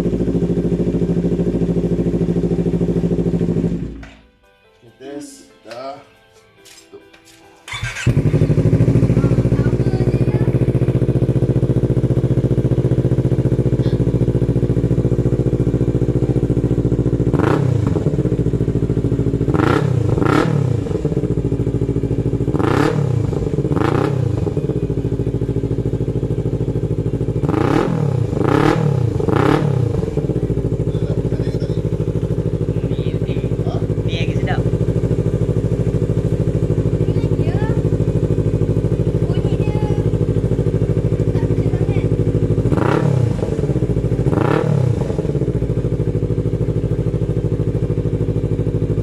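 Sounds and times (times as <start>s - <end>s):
motorcycle engine idling: 0.0s - 4.2s, 7.7s - 49.0s
motorcycle throttle blips: 7.7s - 49.0s.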